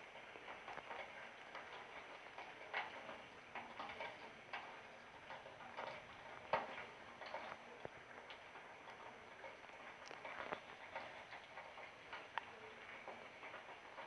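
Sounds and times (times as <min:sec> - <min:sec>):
rainwater dripping: 0:00.0 - 0:14.0.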